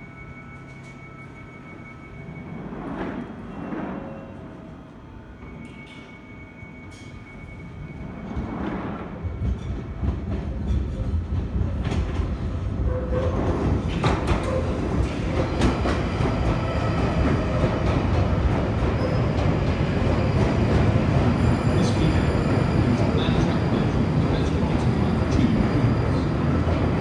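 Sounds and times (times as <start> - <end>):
underground train rumbling: 0.0 - 27.0.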